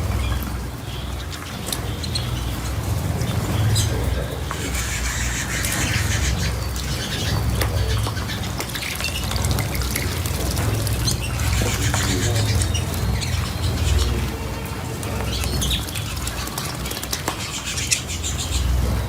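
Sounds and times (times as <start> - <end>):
cage birds chirping and squawking: 0.0 - 19.0
water splashes: 0.0 - 19.0.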